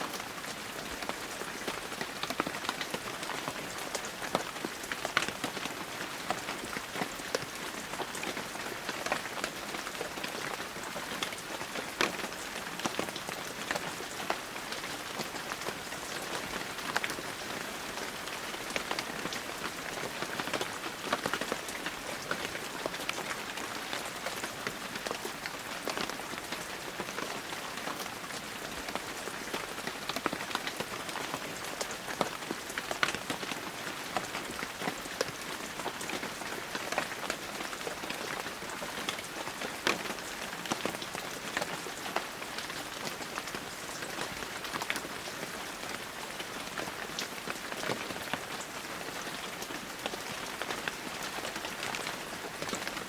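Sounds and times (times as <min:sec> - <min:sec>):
heavy rain falling: 0:00.0 - 0:53.0
raindrops pattering on surfaces: 0:00.1 - 0:53.0.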